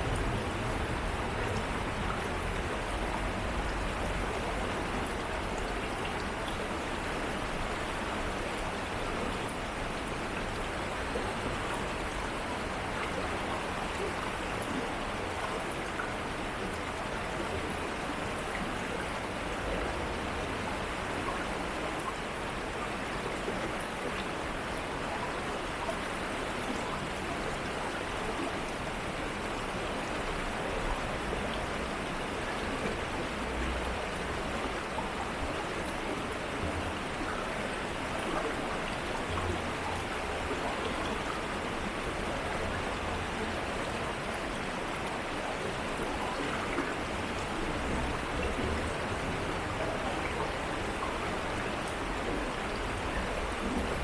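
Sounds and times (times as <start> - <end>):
stream rushing and babbling: 0.0 - 54.0.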